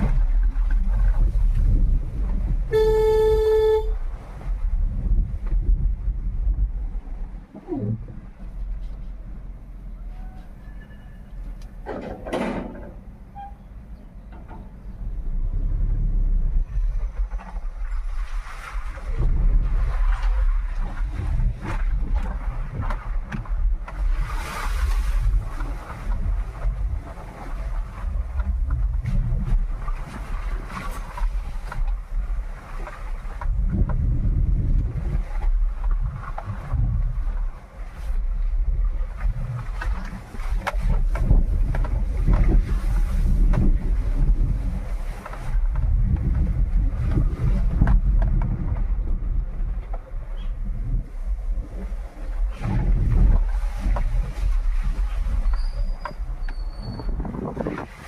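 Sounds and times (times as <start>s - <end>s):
car road and engine rumble: 0.0s - 58.0s
wind buffeting microphone: 0.0s - 58.0s.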